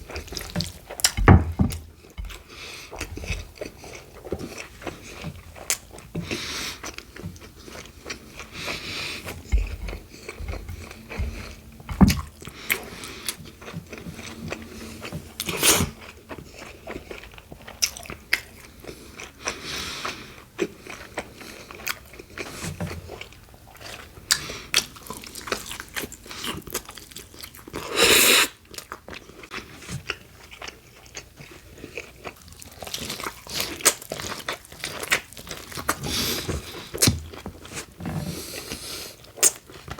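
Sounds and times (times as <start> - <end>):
person chewing crunchy sandwich: 0.0 - 39.9.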